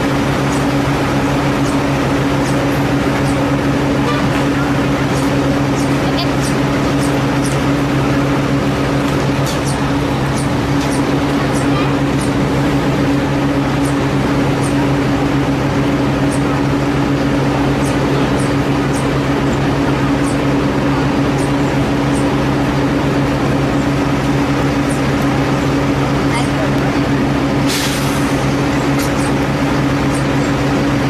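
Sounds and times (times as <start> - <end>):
low mechanical drone: 0.0 - 31.0.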